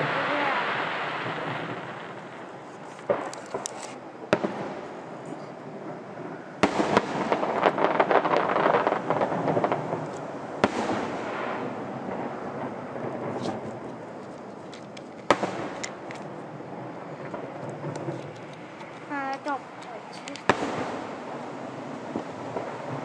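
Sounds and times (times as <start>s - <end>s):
distant firework bangs: 0.0s - 23.0s
fireworks crackling pops: 0.0s - 23.0s.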